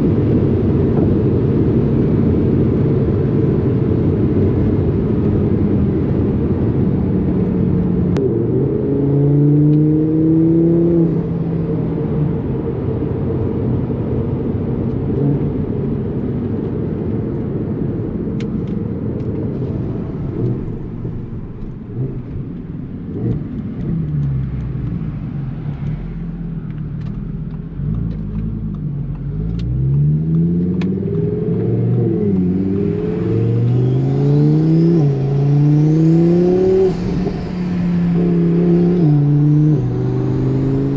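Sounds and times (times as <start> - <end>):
car engine accelerating hard: 0.0 - 16.7, 19.2 - 40.9
wind and road noise: 0.0 - 40.9.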